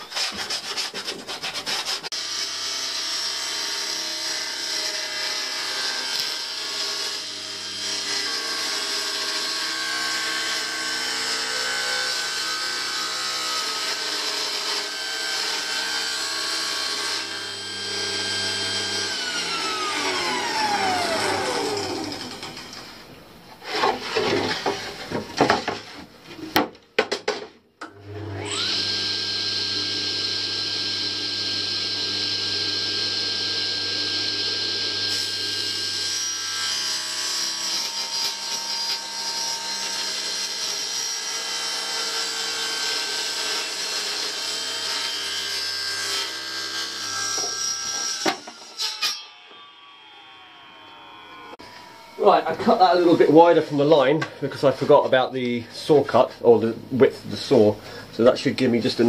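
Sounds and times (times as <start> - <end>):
table saw whining: 0.0 - 25.9, 27.8 - 55.2.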